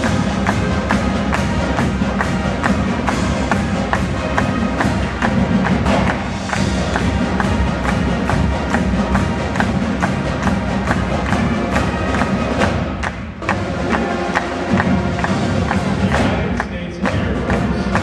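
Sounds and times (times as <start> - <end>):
marching band playing: 0.0 - 18.0
sharp percussion strikes: 0.0 - 18.0
wind instruments sustained notes: 0.0 - 18.0.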